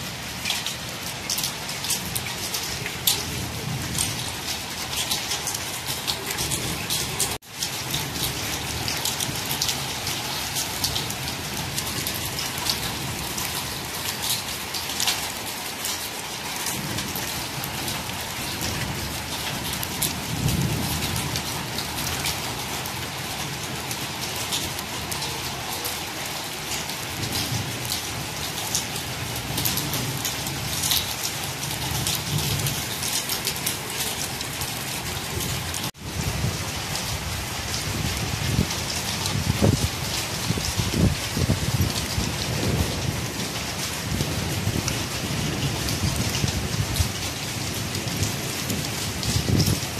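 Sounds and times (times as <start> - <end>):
rain on concrete rooftop: 0.0 - 49.9.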